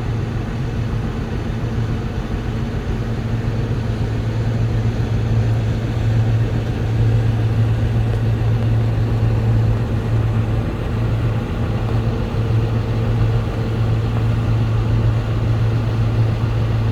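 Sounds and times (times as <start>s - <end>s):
harvest machinery engine drone: 0.0s - 16.9s.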